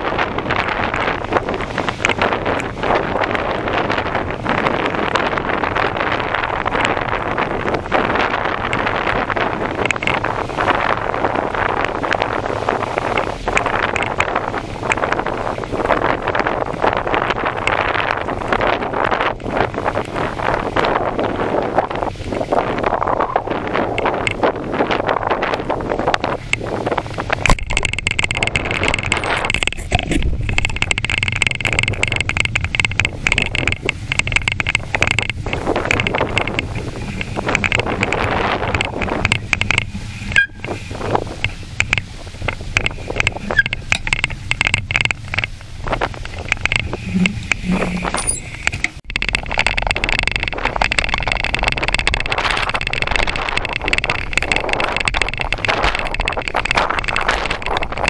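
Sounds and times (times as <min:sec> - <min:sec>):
bicycle rattling over paving tiles: 0:00.0 - 0:58.0
wind rumble on microphone: 0:00.0 - 0:58.0.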